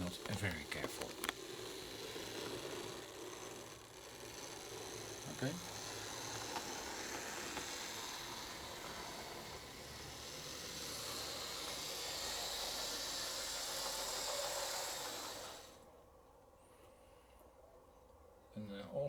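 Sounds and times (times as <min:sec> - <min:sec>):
model train motor hissing: 0:00.0 - 0:17.3.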